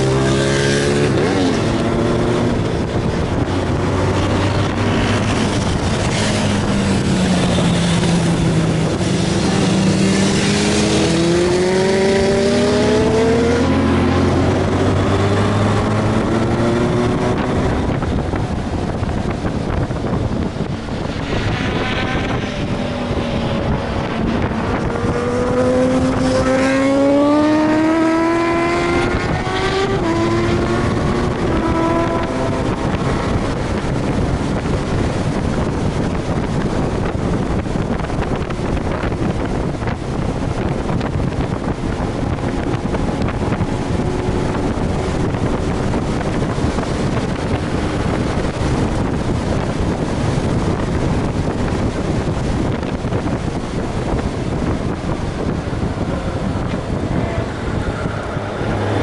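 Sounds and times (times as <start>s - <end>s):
motorcycle engine accelerating: 0.0s - 59.0s
wind rush on microphone: 0.0s - 59.0s.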